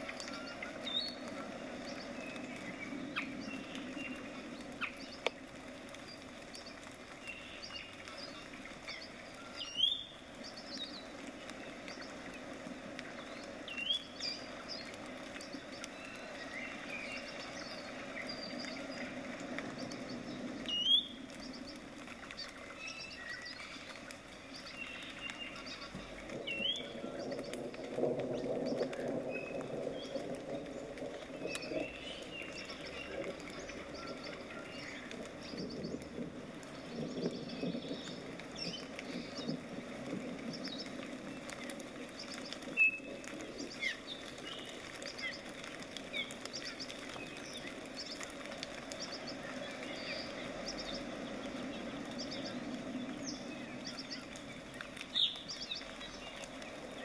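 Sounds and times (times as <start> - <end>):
low steady background noise: 0.0 - 57.0
small birds chirping: 0.0 - 57.0.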